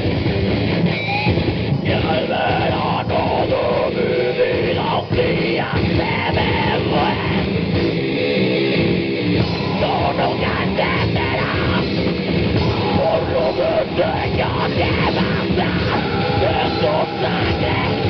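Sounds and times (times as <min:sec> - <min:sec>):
heavy metal band playing: 0:00.0 - 0:18.0.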